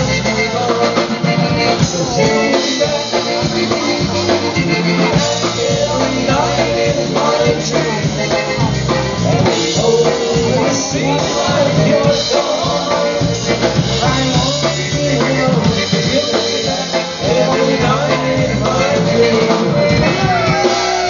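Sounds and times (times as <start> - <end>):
concertina: 0.0 - 21.0
drum kit beat: 0.0 - 21.0
polka band playing: 0.0 - 21.0.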